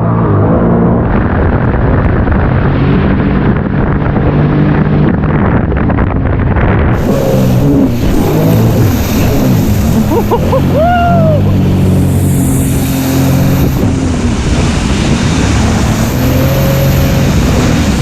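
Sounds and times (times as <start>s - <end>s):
wind buffeting microphone: 0.0s - 18.0s
watercraft engine running: 1.0s - 18.0s.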